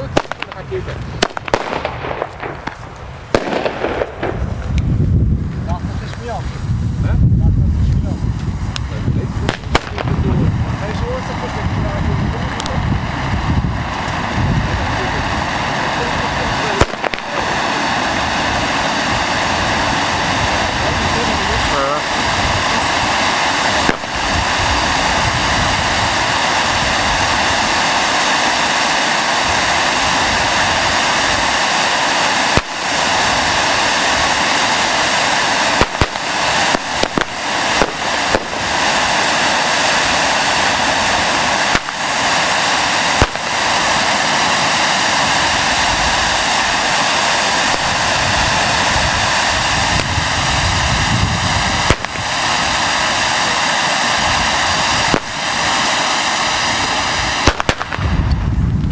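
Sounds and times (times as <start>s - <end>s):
fireworks bangs: 0.0s - 7.2s, 8.0s - 58.9s
fireworks hissing: 0.0s - 58.9s.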